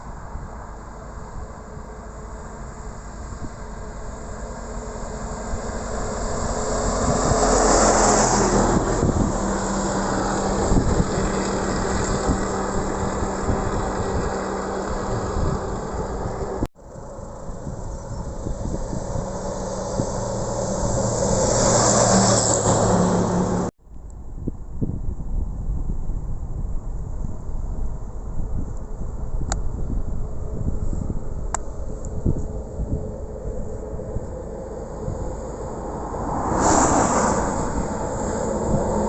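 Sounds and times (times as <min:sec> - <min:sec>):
fire engine passing: 0:00.0 - 0:23.7, 0:28.3 - 0:39.0.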